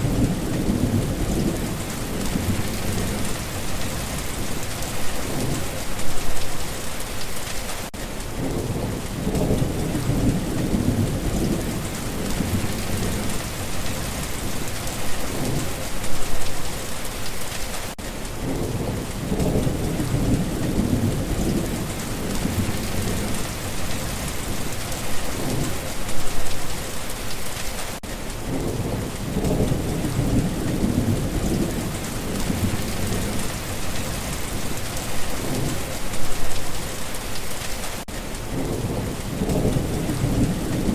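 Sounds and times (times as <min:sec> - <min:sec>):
rolling thunder: 0:00.0 - 0:06.0, 0:08.3 - 0:16.6, 0:18.4 - 0:26.4, 0:28.4 - 0:36.6, 0:38.5 - 0:40.9
rain hissing: 0:00.0 - 0:40.9.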